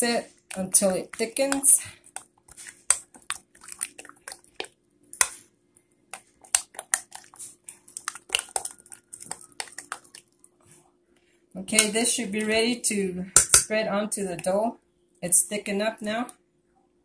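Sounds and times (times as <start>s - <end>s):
spoon stirring thick filling: 0.0s - 10.9s, 11.6s - 14.7s.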